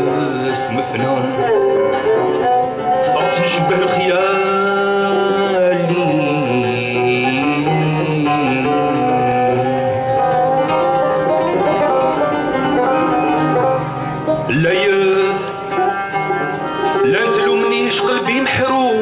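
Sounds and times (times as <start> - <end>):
plucked strings ensemble playing: 0.0 - 19.0.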